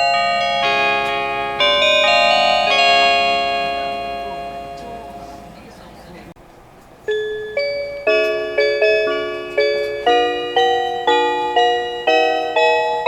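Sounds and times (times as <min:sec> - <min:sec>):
railway chime melody: 0:00.0 - 0:06.3, 0:07.0 - 0:13.0.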